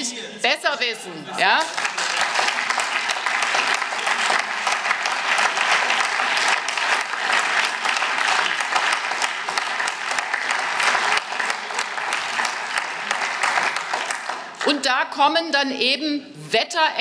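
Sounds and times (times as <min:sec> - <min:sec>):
many people clapping: 0:01.4 - 0:15.2.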